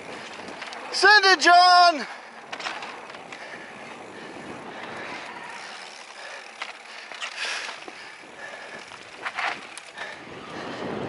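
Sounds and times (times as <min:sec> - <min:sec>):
bike tyres rolling on dirt: 0:00.0 - 0:11.0.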